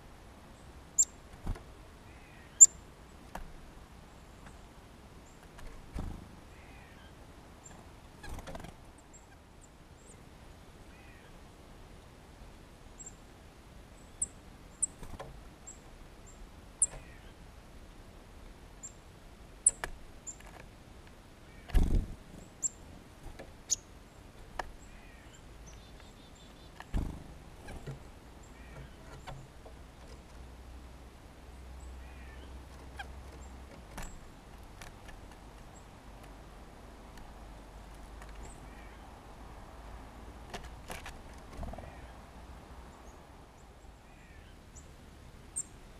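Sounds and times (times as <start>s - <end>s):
small songbirds chirping: 0.0s - 17.6s, 18.7s - 20.6s, 21.3s - 30.6s, 31.2s - 45.9s
low outdoor hum: 0.0s - 45.9s.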